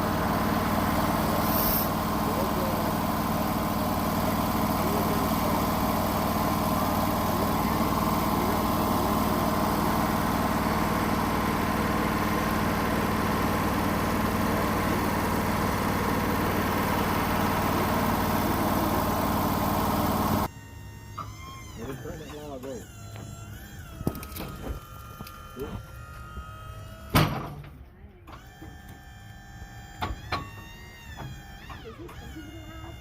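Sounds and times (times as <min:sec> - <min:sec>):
sawmill engine running: 0:00.0 - 0:33.0.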